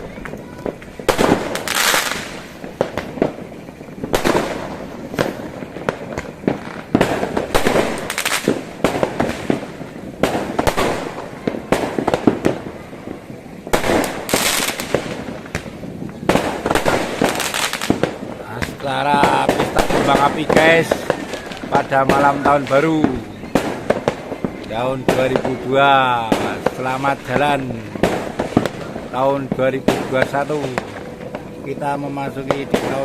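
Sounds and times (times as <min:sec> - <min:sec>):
fireworks bangs and pops: 0:00.0 - 0:33.0
fireworks crackling: 0:00.0 - 0:33.0.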